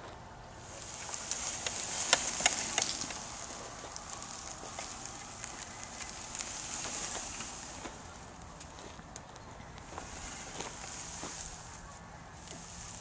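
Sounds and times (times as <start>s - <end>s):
dry grass crackling and rustling: 0.0s - 13.0s
wheelchair motor driving: 0.6s - 13.0s.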